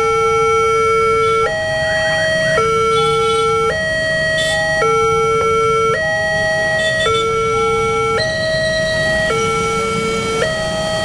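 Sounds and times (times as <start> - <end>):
level-crossing two-tone siren: 0.0 - 11.0.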